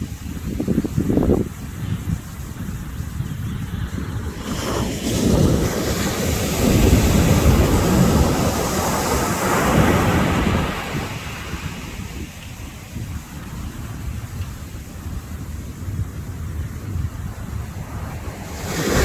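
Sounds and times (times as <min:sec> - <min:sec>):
waves breaking on beach: 0:00.0 - 0:19.0
wind on microphone: 0:00.0 - 0:19.0.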